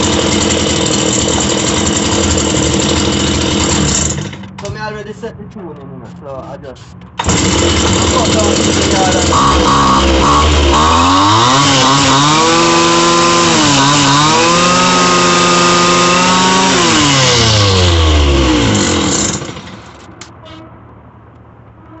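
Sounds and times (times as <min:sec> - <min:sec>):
brushcutter engine revving: 0:00.0 - 0:04.7, 0:07.2 - 0:20.2.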